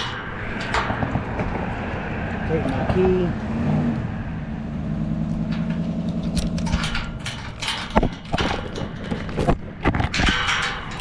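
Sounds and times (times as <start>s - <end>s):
sharp clicks and knocks: 0.0s - 3.1s, 5.2s - 11.0s
truck engine idling: 0.0s - 9.9s.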